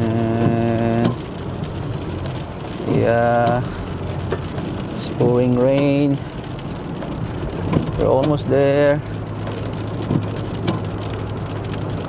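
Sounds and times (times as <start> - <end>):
car engine and road noise: 0.0 - 12.0
heavy rain on car roof: 0.0 - 12.0
raindrop ticks: 0.0 - 12.0.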